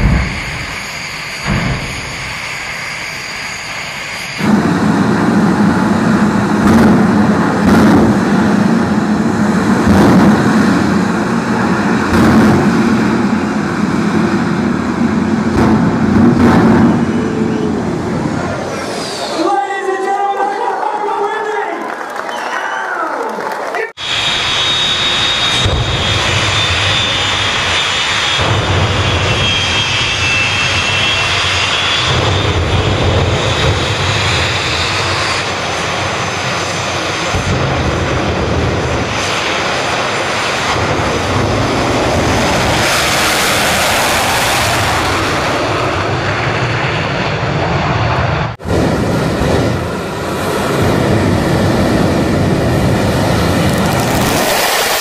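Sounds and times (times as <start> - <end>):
jet engine whine and roar: 0.0 - 20.5, 23.9 - 55.0.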